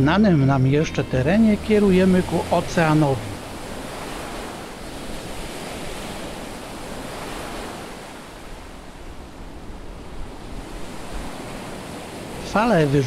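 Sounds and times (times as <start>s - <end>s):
surf breaking on beach: 0.8s - 13.0s.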